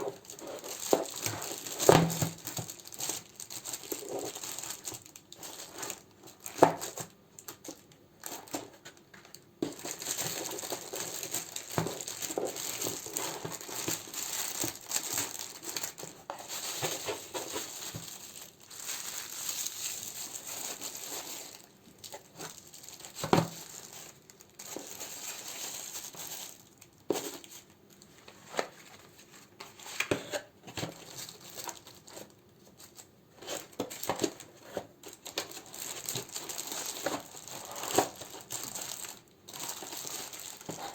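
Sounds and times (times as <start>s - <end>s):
plastic and paper crinkling: 0.0s - 40.9s.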